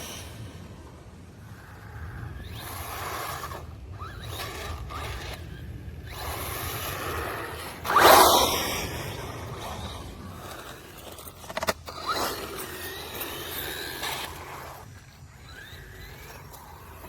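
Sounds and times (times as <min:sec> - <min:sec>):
rc car motor whirring: 0:00.0 - 0:17.0
tyres scraping over ground: 0:00.0 - 0:17.0.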